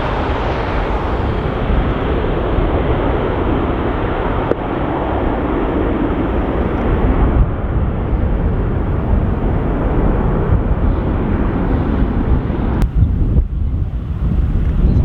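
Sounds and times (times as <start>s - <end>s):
jet engines at takeoff power: 0.0s - 15.0s
wind buffeting microphone: 0.0s - 15.0s.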